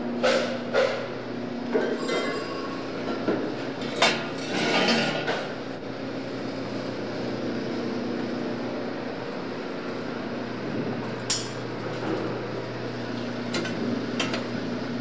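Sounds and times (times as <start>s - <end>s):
steady machinery hum: 0.0s - 15.0s.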